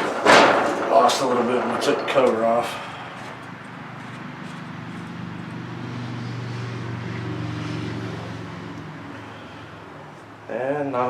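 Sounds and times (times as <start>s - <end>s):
low engine drone: 0.0s - 10.5s.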